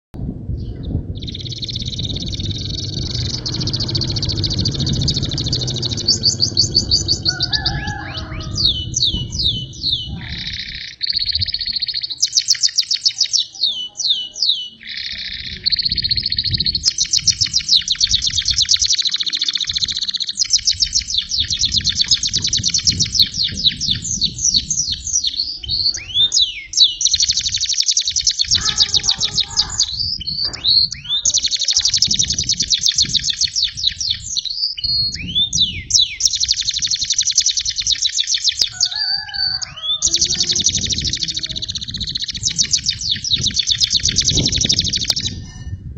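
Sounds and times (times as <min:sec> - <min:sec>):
canary singing trills: 0:00.6 - 0:45.8.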